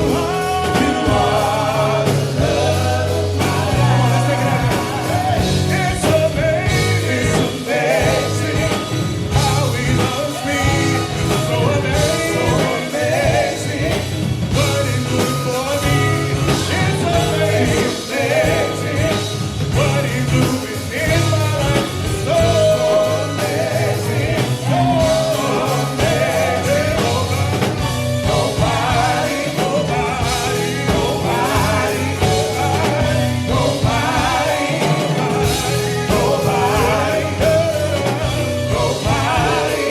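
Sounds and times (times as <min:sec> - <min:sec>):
bass: 0:00.0 - 0:39.9
drums: 0:00.0 - 0:39.9
vocal quartet singing: 0:00.0 - 0:39.9.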